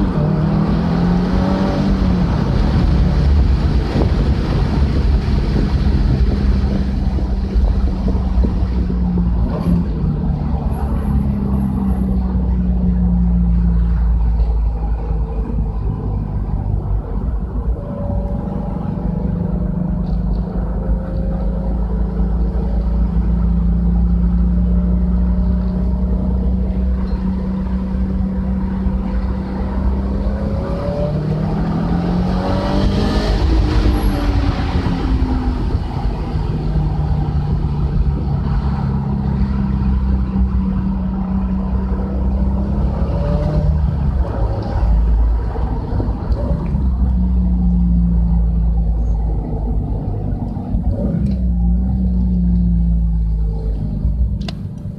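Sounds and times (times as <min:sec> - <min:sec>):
car engine and exhaust running: 0:00.0 - 0:54.9.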